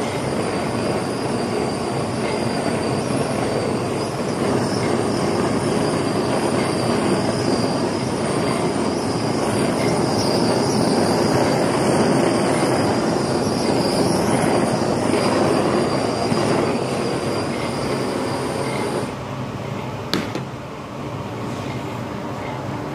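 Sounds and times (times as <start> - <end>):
gas torch hissing: 0.0 - 19.2.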